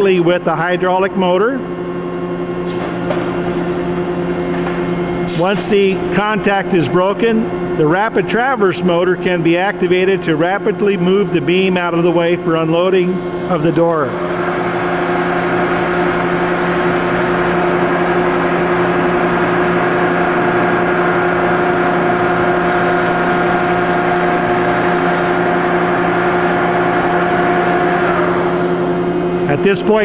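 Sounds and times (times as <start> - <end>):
electric motor humming and whining: 0.0 - 30.0.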